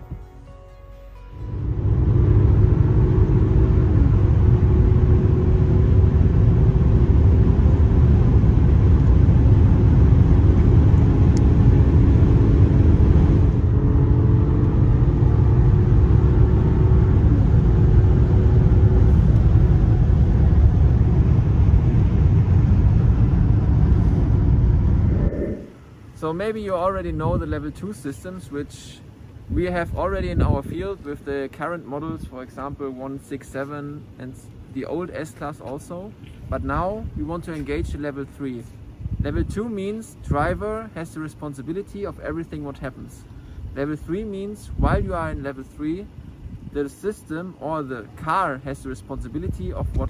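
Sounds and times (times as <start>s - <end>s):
faint engine hum: 0.0s - 50.0s
low road rumble in car cabin: 0.0s - 50.0s.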